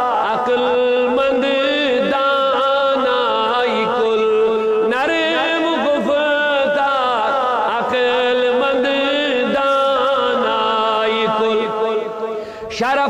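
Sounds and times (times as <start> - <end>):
man singing solo: 0.0 - 13.0.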